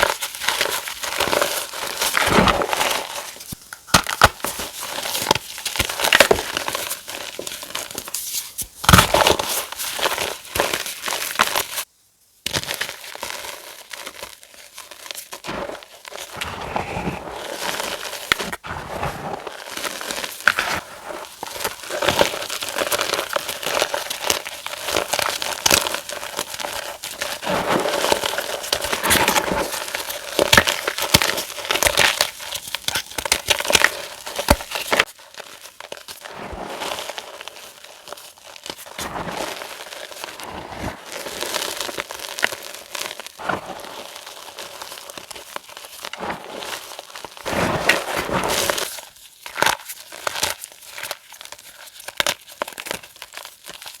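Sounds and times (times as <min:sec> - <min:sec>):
chalk crunching and crumbling: 0:00.0 - 0:11.9, 0:12.5 - 0:54.0.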